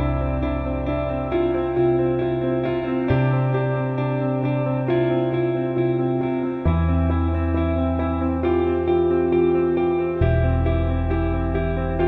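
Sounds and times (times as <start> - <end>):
plucked guitar notes with echo: 0.0 - 12.0
sustained low bass: 0.0 - 12.0.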